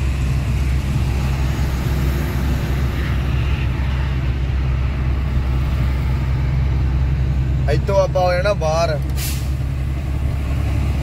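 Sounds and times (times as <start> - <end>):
truck engine drone: 0.0 - 11.0.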